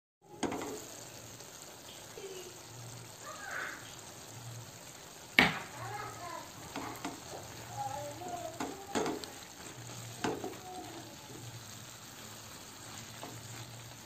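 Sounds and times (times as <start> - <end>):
sauce sizzling in a frying pan: 0.2 - 14.0.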